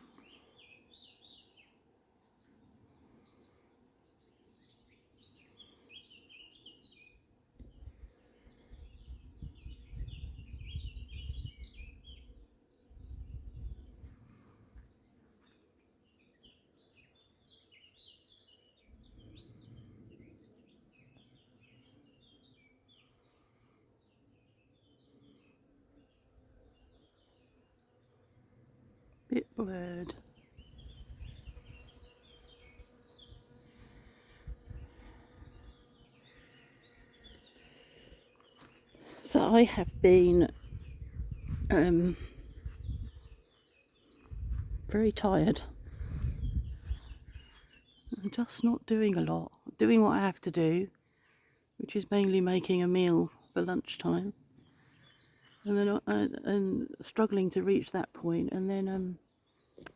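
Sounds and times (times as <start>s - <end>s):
small birds singing: 0.0s - 59.9s.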